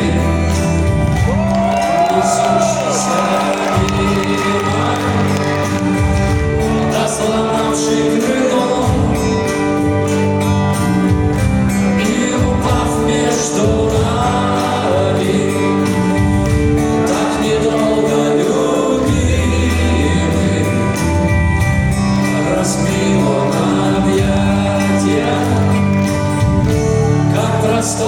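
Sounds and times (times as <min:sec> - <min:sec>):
person singing: 0:00.0 - 0:10.0, 0:11.8 - 0:21.3, 0:22.1 - 0:28.0
rock band playing live: 0:00.0 - 0:28.0.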